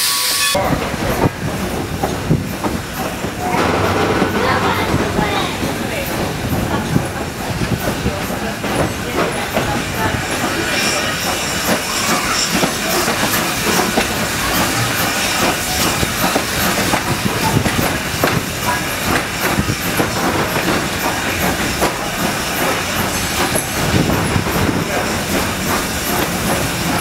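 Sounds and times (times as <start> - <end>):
train wheels rumbling and clattering: 0.0 - 27.0.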